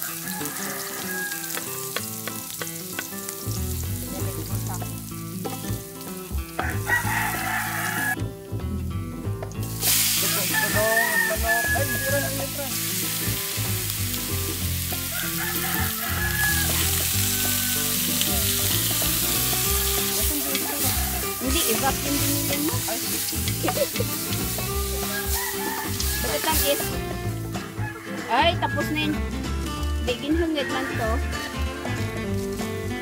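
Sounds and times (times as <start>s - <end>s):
meat sizzling in hot oil: 0.0s - 8.2s, 9.4s - 28.0s, 28.6s - 33.0s.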